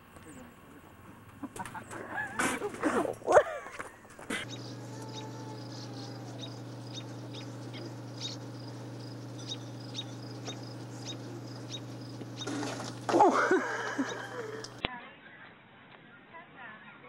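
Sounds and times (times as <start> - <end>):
low electrical hum: 0.0 - 14.9.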